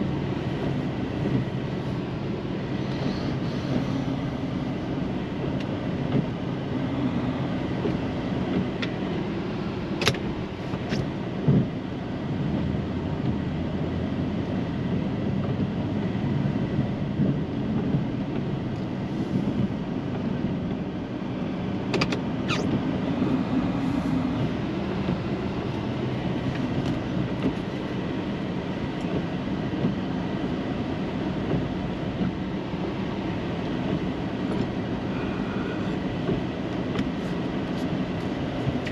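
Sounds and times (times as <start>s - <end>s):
snow plow truck rumbling: 0.0s - 38.9s.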